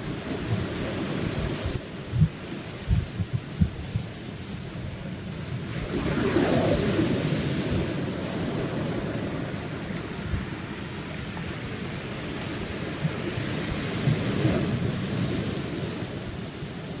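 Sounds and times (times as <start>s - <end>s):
waves on a rocky shore: 0.0s - 17.0s
wind rumbling on microphone: 0.0s - 17.0s.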